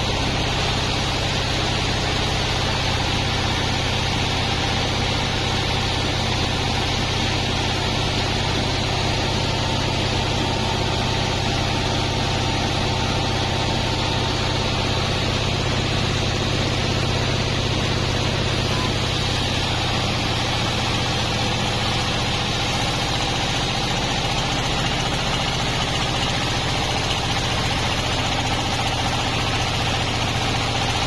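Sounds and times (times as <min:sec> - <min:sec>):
bandsaw running: 0:00.0 - 0:31.0.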